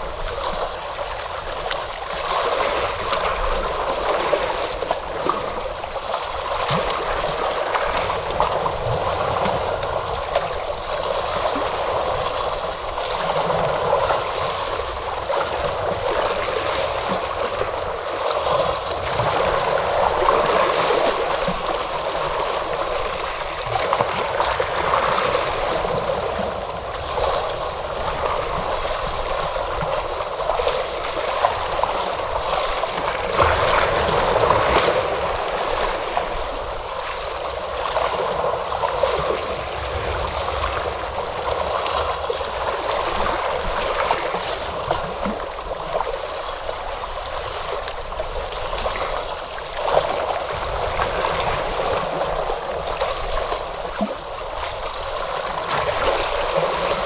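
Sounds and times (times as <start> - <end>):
ocean waves washing on shore: 0.0 - 57.0.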